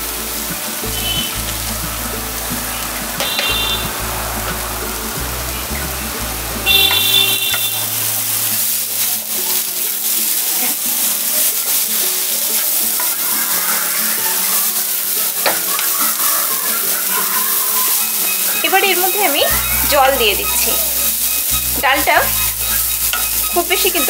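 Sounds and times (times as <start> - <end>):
lentils sizzling in oil: 0.0 - 24.0.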